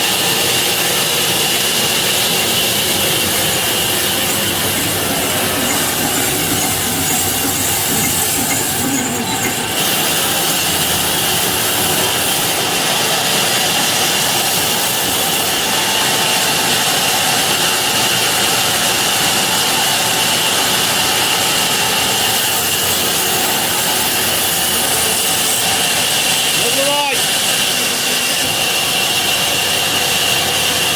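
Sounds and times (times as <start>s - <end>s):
sawmill saw cutting log: 0.0s - 30.9s.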